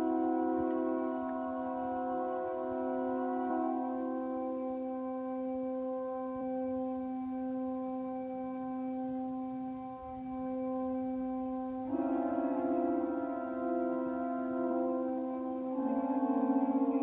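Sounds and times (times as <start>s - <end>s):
pipe organ chord: 0.0s - 17.0s.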